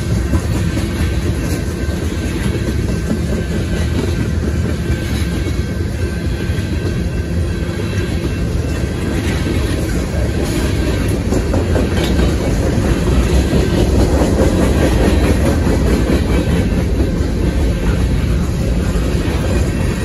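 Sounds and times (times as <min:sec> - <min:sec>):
wheels clacking over rail joints: 0:00.0 - 0:20.0.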